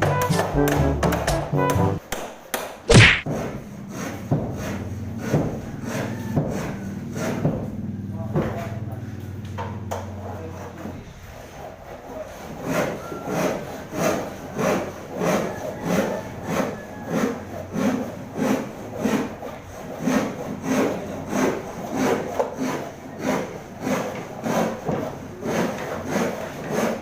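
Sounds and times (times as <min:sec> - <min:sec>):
hand saw cutting wood: 0:00.0 - 0:01.9, 0:02.9 - 0:07.8, 0:08.4 - 0:27.0.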